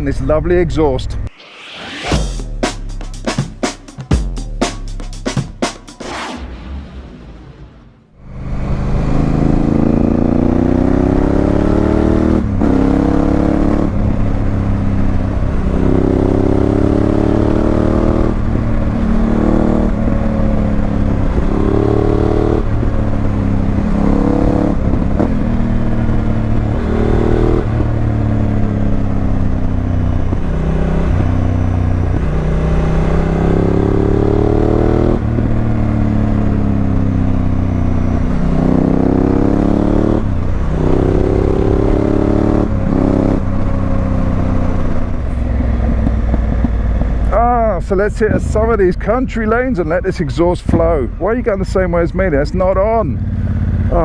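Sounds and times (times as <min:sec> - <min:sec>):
motorcycle engine accelerating: 0:01.3 - 0:50.1, 0:52.8 - 0:54.0.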